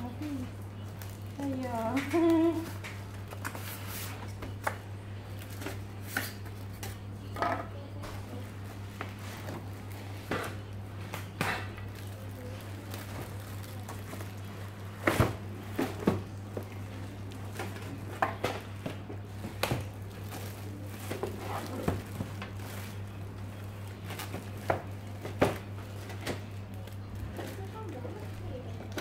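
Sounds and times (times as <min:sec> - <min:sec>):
cardboard and plastic rustling: 0:00.0 - 0:29.0.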